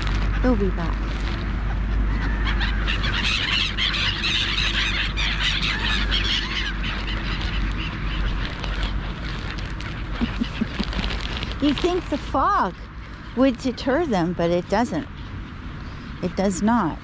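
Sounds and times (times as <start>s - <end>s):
gulls calling: 0.0s - 17.0s
steady low rumble: 0.0s - 17.0s.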